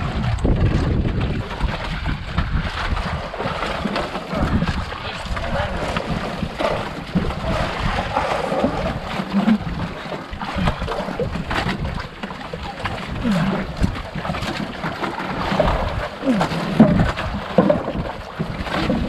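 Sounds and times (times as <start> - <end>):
water lapping against boat hull: 0.0 - 19.0.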